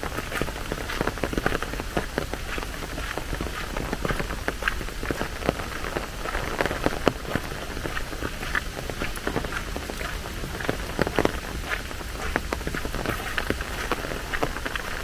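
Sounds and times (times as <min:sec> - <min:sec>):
rain falling: 0:00.0 - 0:15.0
raindrop impacts: 0:00.0 - 0:15.0.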